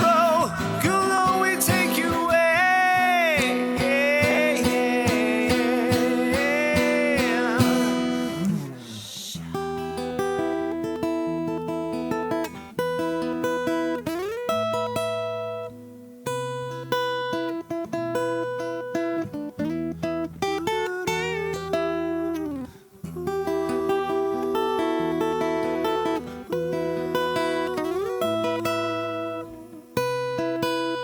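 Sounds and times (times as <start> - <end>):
electric guitar playing: 0.0 - 31.0.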